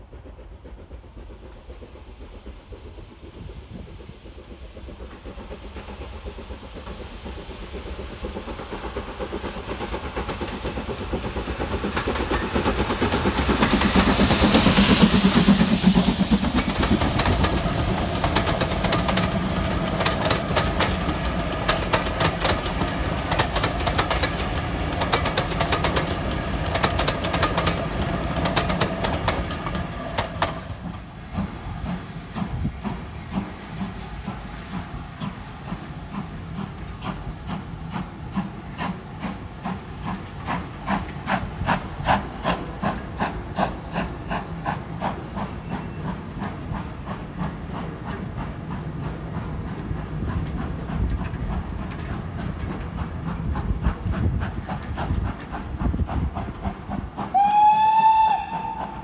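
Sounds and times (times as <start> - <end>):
steam locomotive passing: 0.0 - 59.0
train wheels clicking over rail joints: 0.0 - 59.0.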